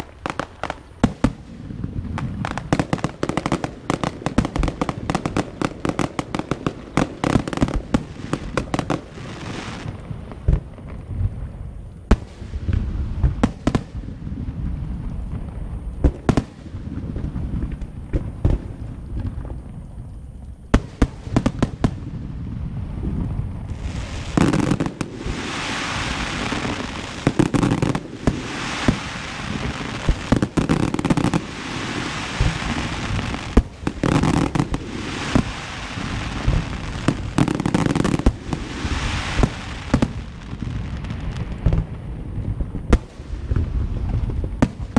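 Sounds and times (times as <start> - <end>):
fireworks bangs: 0.0 - 19.6, 20.7 - 44.9
fireworks crackling hiss: 0.0 - 44.9.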